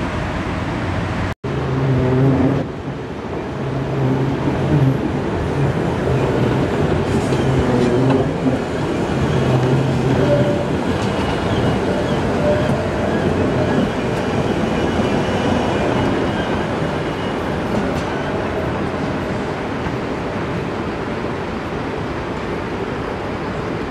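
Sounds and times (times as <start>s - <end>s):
tram wheels rumbling on rail: 0.0s - 23.9s.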